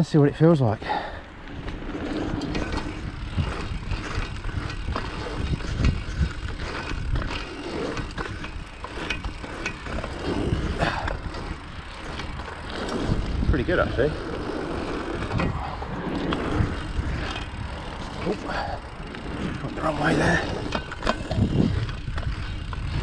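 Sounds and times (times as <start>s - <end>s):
bicycle tyre rumble: 0.0s - 23.0s
bike knocks and rattles: 0.9s - 23.0s.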